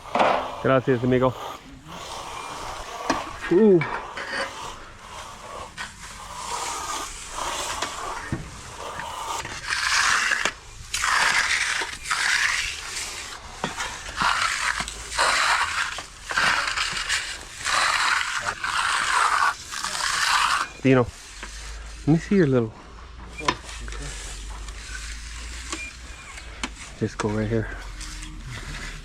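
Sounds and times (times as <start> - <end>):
trowel scraping wet concrete: 0.0 - 22.7, 23.4 - 29.0.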